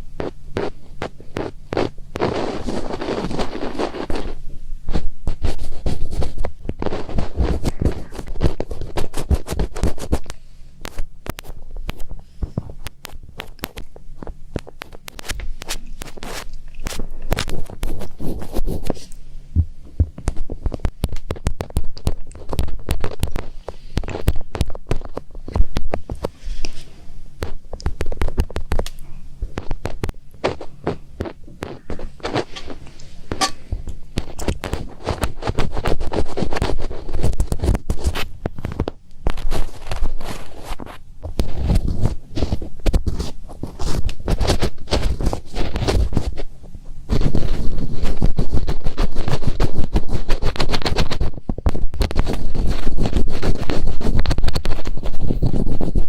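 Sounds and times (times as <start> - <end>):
fingertips scratching microphone: 0.0 - 56.0.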